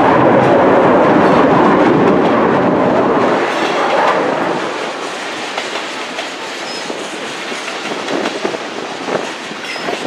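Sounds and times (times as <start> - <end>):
steel wheels rumbling on rail: 0.0 - 10.0
wheels clacking over rail joints: 0.3 - 10.0.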